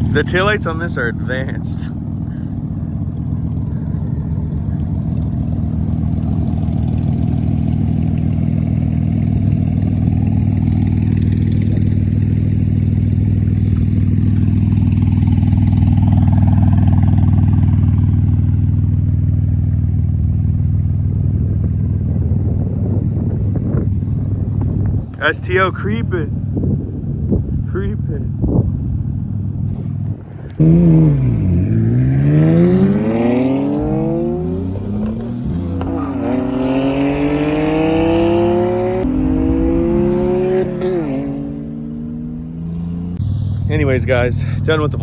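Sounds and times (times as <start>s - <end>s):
car engine droning: 0.0s - 45.0s
road noise: 0.0s - 45.0s.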